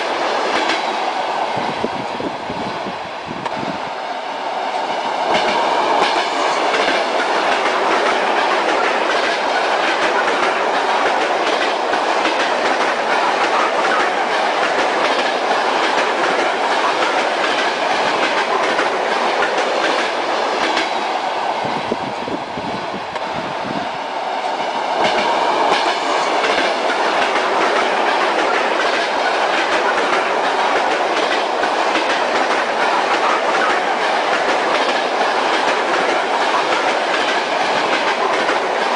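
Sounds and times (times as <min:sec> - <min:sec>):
train wheels clickety-clack: 0:00.0 - 0:02.2, 0:04.6 - 0:22.4, 0:23.0 - 0:38.9
railway carriage rolling noise: 0:00.0 - 0:38.9.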